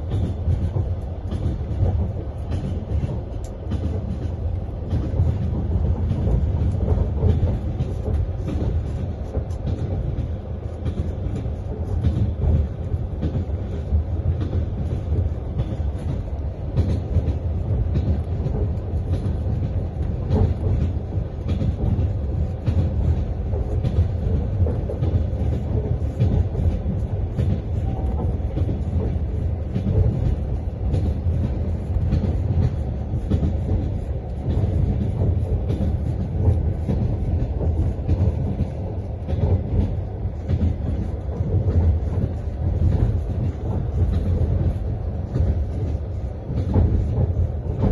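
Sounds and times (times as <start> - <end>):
train low rumble: 0.0 - 47.9.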